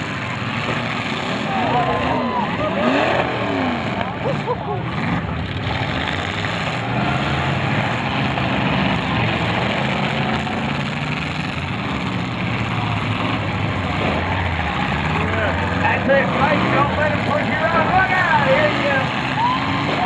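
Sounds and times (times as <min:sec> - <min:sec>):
drone of several car engines: 0:00.0 - 0:20.0.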